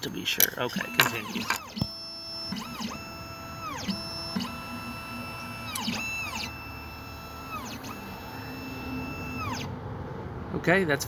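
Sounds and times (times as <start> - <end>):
stepper motors whining: 0.0 - 9.7.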